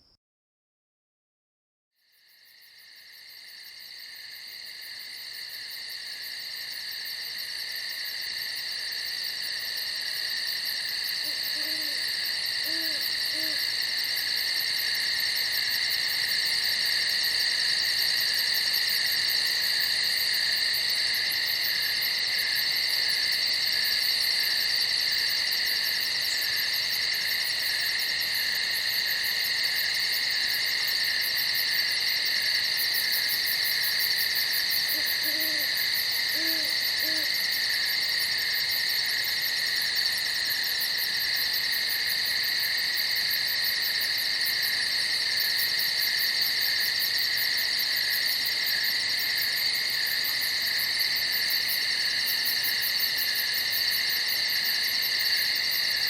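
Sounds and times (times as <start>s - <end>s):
crickets chirping: 2.0s - 56.0s.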